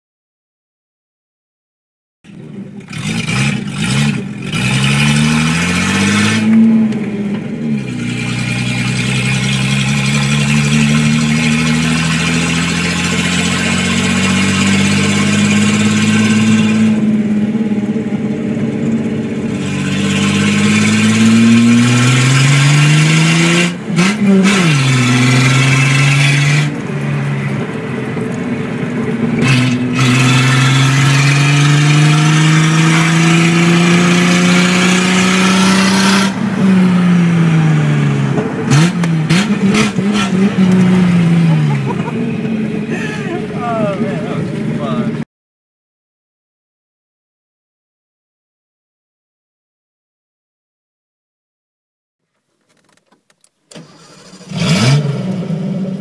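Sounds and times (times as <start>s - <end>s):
car engine revving: 2.3s - 45.2s, 53.8s - 56.0s.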